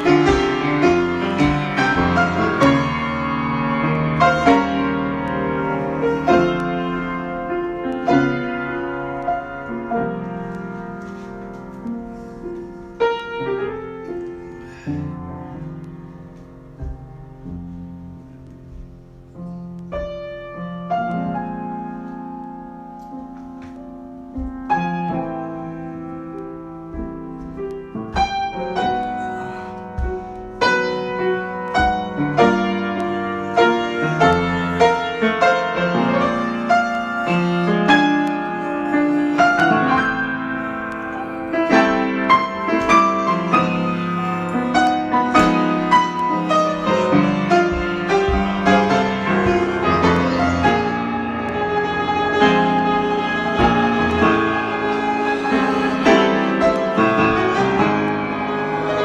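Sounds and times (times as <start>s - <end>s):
solo piano: 0.0s - 59.0s.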